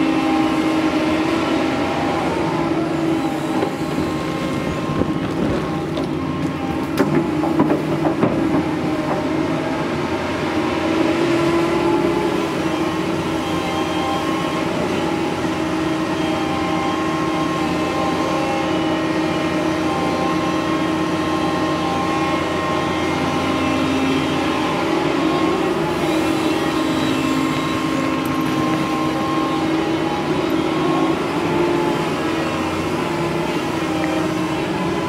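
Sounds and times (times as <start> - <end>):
diesel engine running under load: 0.0 - 35.0
hydraulic whine: 0.0 - 35.0.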